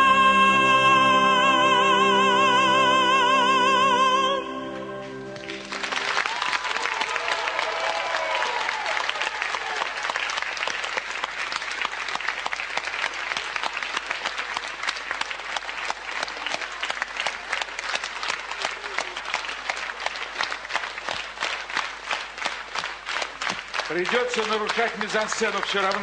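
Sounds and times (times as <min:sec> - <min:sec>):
audience applauding: 0:05.0 - 0:26.0.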